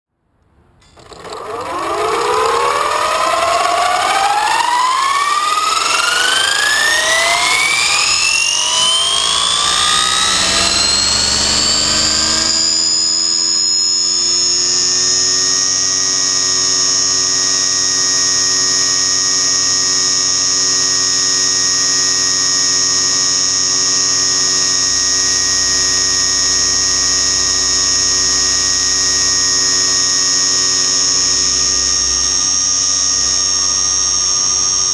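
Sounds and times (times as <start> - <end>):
model helicopter whine: 0.8 - 34.9.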